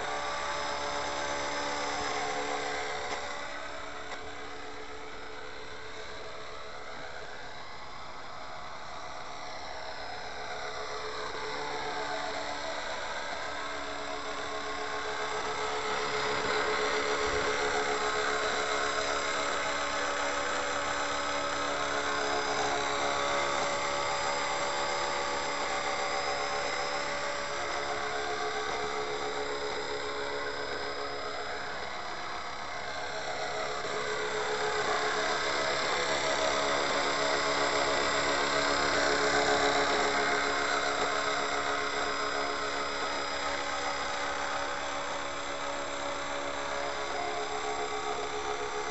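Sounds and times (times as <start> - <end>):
model helicopter motor whine: 0.0 - 48.9
spinning rotor noise: 0.0 - 48.9.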